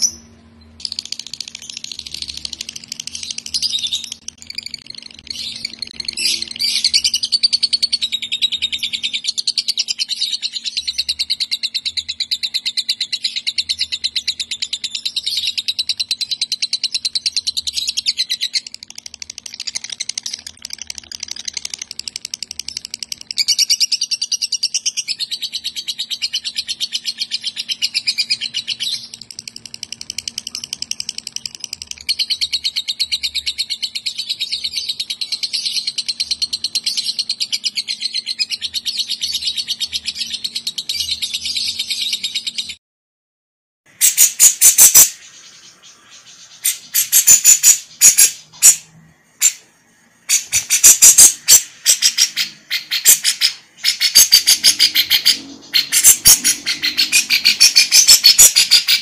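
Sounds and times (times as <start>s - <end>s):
lovebird chattering trill: 0.0s - 42.3s, 43.9s - 49.6s, 50.3s - 59.0s.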